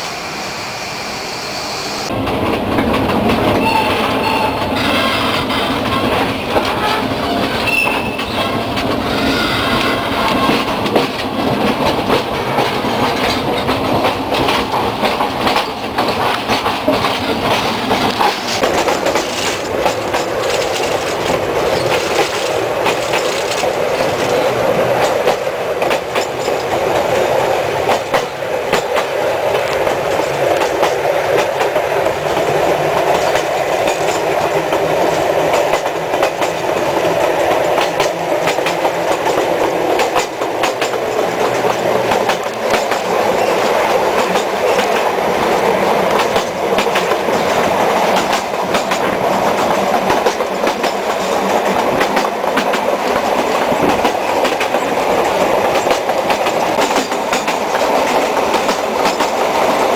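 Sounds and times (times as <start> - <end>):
train rumbling and rattling: 0.0 - 59.9
wheels clicking over rail joints: 2.1 - 59.9.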